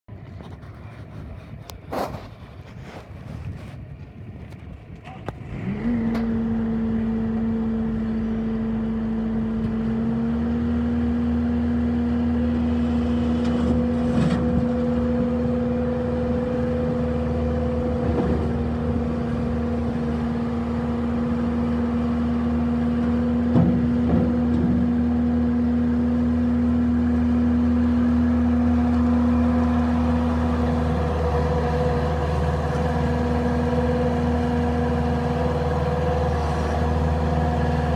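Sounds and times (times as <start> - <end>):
diesel engine starting and running: 4.8 - 37.9.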